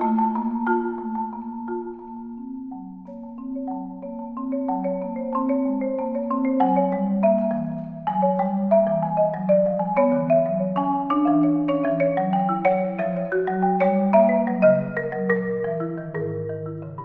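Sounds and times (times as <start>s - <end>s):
marimba played with mallets: 0.0s - 17.0s.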